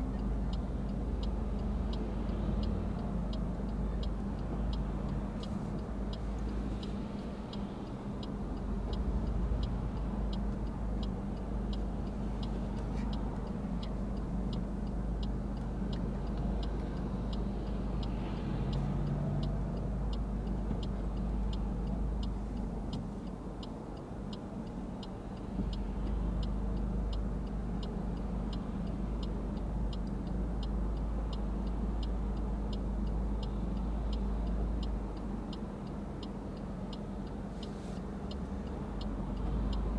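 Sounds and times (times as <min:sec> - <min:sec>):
car and traffic hum: 0:00.0 - 0:39.9
turn signal ticking: 0:00.0 - 0:39.9.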